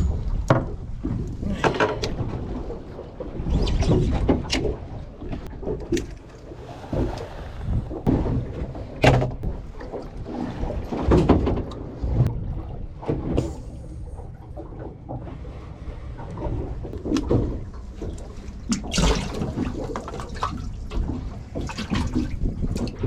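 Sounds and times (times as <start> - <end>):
knocks and clunks on boat: 0.0 - 23.0
water noise: 0.0 - 23.0
wind: 0.0 - 23.0.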